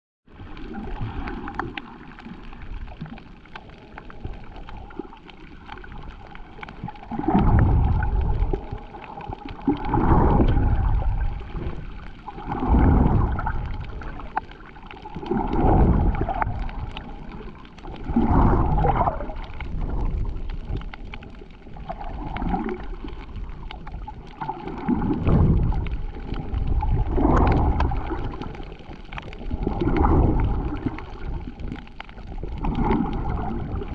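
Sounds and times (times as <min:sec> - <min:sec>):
water rushing: 0:00.3 - 0:33.9
underwater gurgling hiss: 0:00.4 - 0:33.9.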